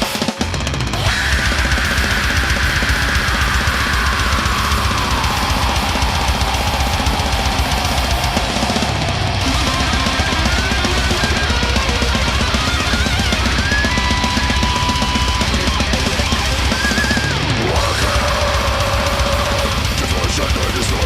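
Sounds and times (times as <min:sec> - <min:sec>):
heavy metal music: 0:00.0 - 0:21.0.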